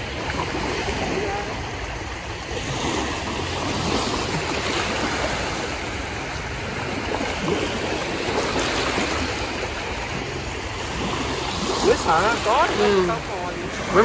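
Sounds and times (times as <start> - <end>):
small waves lapping on shore: 0.0 - 14.0.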